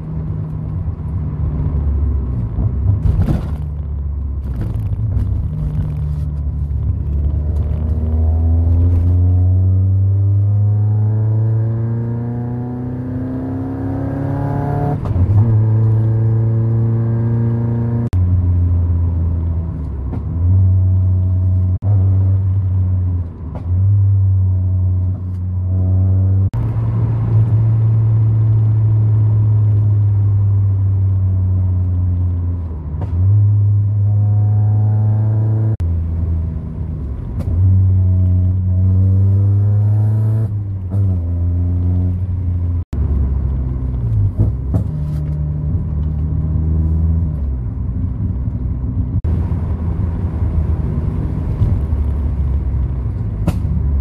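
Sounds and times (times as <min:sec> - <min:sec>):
car engine revving in cabin: 0:00.0 - 0:54.0.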